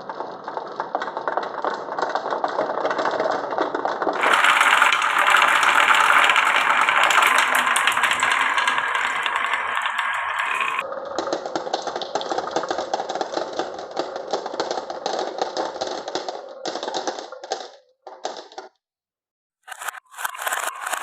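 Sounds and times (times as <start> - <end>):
marbles clattering down wooden track: 0.0 - 18.7.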